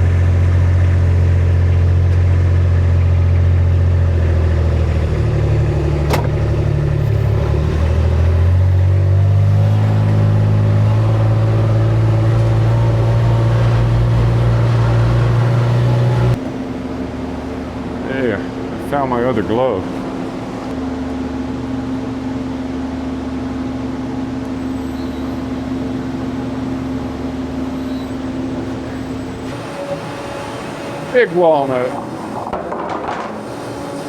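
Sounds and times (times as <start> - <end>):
heavy machine engine revving: 0.0 - 20.8, 24.6 - 34.0.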